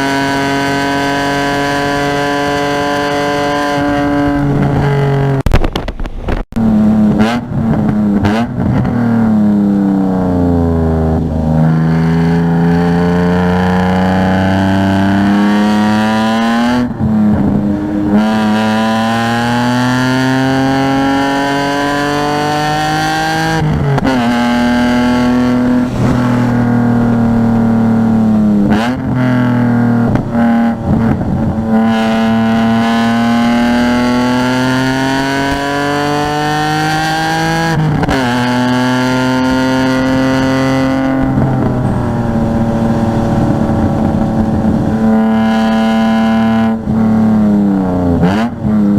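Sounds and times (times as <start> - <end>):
car engine accelerating hard: 0.0 - 5.5, 6.6 - 48.9.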